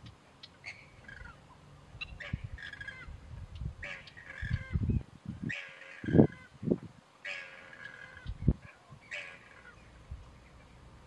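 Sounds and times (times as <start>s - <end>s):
shorebirds calling: 0.0s - 6.6s, 7.2s - 11.0s.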